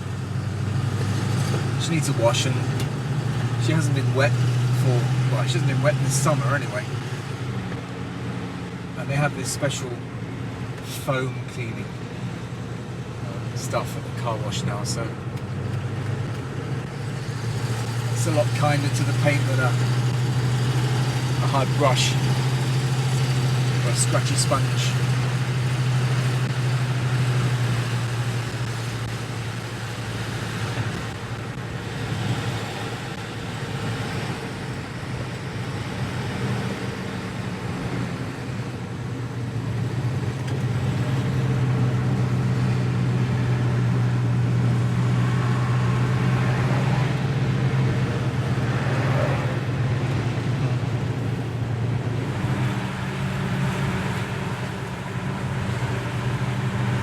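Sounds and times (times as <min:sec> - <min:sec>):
car engine drone: 0:00.0 - 0:57.0
tyre road noise: 0:00.0 - 0:57.0.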